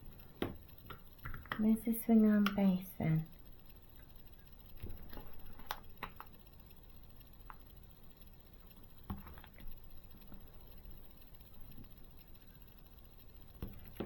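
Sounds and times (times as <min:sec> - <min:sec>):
small plastic parts clicking: 0:00.0 - 0:14.0.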